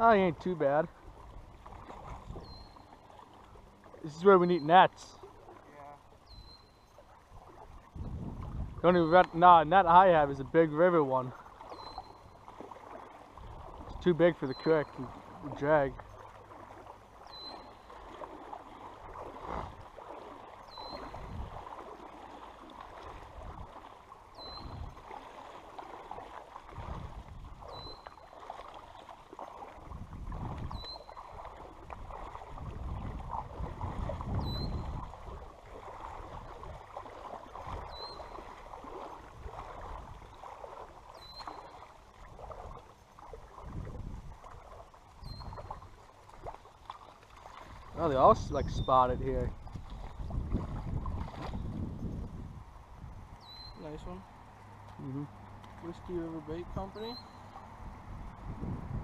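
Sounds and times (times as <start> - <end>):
creek water running: 0.0 - 59.0.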